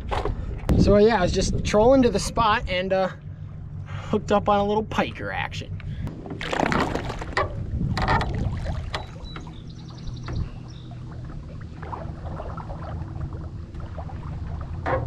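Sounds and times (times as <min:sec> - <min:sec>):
outboard motor humming: 0:00.0 - 0:15.0.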